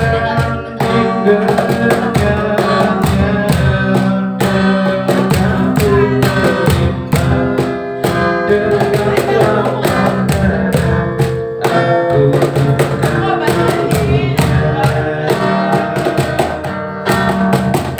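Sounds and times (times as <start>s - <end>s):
acoustic guitar strumming: 0.0s - 17.9s
person singing: 0.0s - 17.9s.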